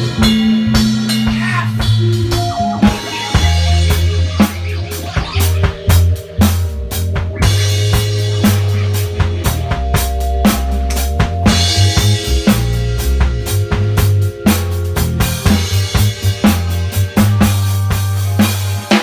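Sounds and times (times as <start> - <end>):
deep bass line: 0.0 - 19.0
drum kit beat: 0.0 - 19.0.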